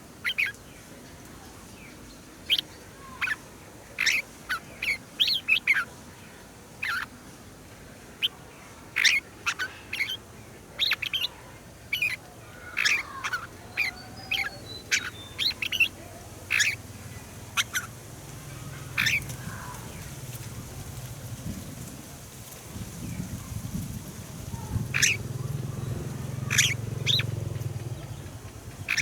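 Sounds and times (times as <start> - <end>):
bulbuls singing and calling: 0.2 - 0.6, 1.8 - 6.0, 6.8 - 7.2, 8.2 - 29.0.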